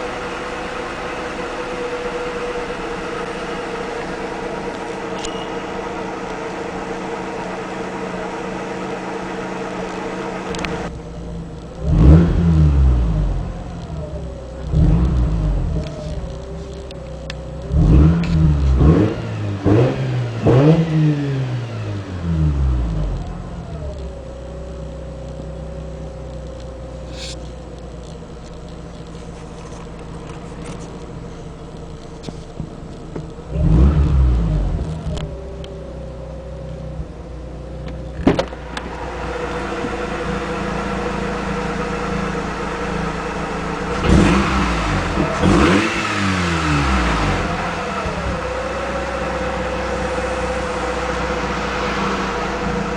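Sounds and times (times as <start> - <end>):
rotary engine revving: 0.0 - 11.1, 11.7 - 24.3, 27.1 - 52.9.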